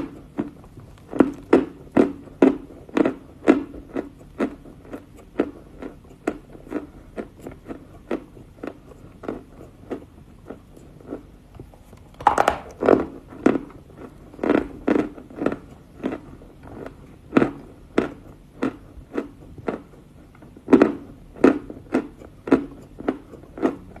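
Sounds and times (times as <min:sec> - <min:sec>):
chewing crunchy chalk: 0:00.0 - 0:24.0.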